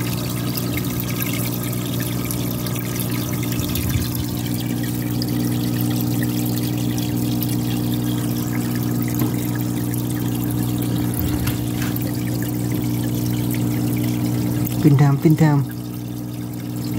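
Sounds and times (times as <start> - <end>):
water pump humming: 0.0 - 16.9
water trickling and splashing: 0.0 - 16.9.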